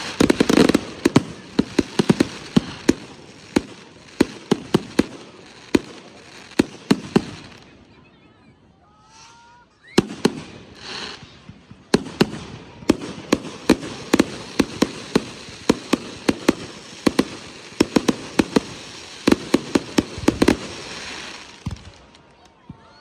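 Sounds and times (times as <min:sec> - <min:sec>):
fireworks bangs: 0:00.0 - 0:07.7, 0:10.0 - 0:22.4
fireworks crackling hiss: 0:00.0 - 0:07.7, 0:08.9 - 0:22.4.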